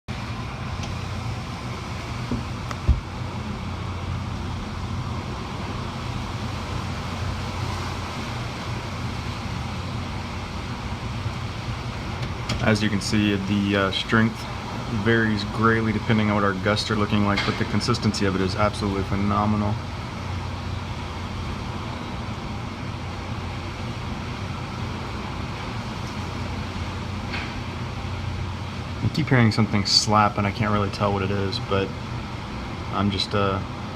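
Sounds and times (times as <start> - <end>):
hurricane winds blowing: 0.1 - 33.9
low steady hum: 0.1 - 33.9.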